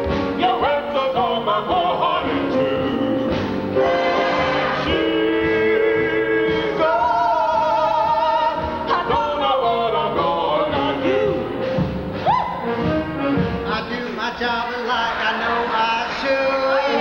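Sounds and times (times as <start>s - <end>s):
musical accompaniment: 0.0s - 17.0s.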